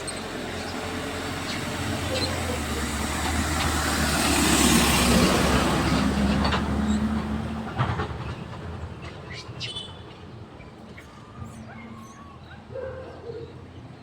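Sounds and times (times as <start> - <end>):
vehicle passing rumble: 0.0 - 14.0.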